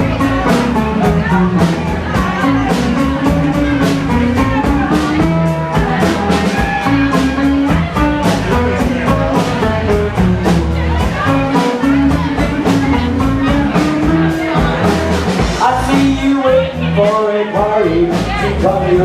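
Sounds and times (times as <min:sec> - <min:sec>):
rock band playing: 0:00.0 - 0:19.0
steady drum beat: 0:00.0 - 0:19.0.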